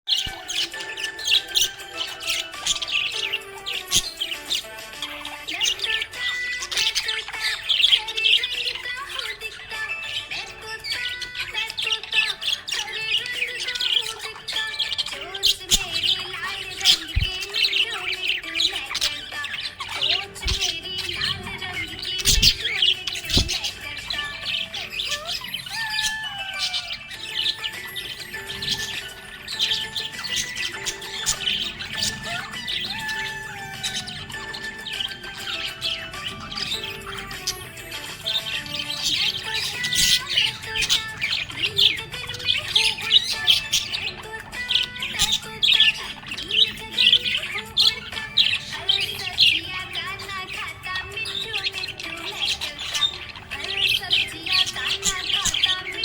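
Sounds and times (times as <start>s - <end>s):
budgies chirping and warbling: 0.0s - 56.0s.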